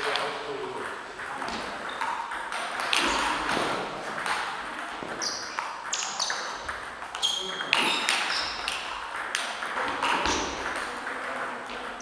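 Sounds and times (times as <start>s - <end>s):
table tennis ball ticking: 0.1s - 12.0s.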